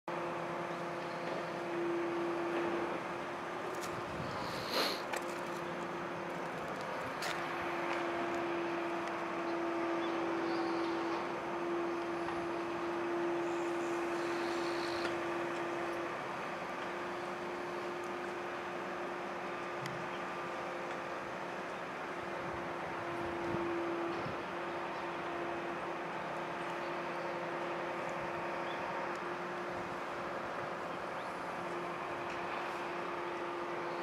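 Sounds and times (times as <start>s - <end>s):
droning hum: 0.1s - 34.0s.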